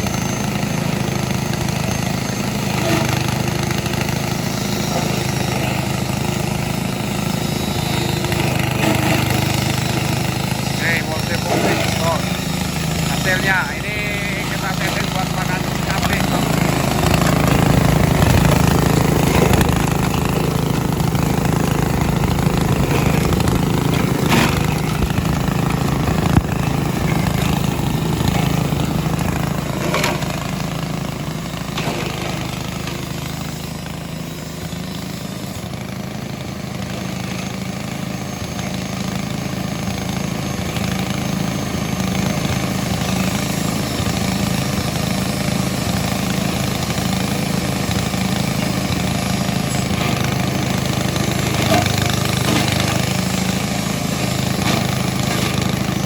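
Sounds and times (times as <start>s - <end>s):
grass chopper engine running: 0.0s - 56.0s.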